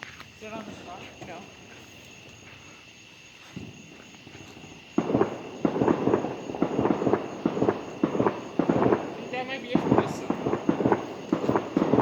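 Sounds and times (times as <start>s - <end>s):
fireworks popping and crackling: 0.0s - 2.8s, 3.4s - 12.0s.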